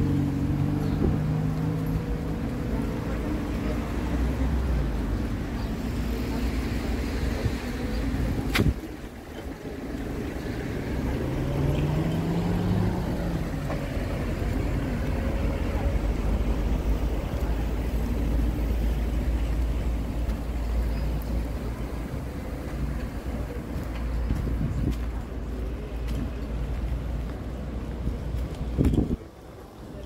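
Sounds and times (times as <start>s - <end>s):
engine passing by: 0.0s - 29.8s
low rumble of passing vehicles: 0.0s - 30.0s.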